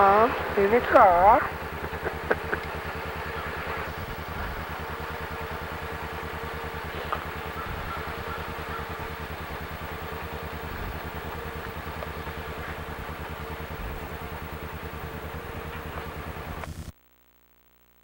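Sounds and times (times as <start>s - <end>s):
car engine and road noise: 0.0s - 17.0s
faint steady hum: 0.0s - 18.0s.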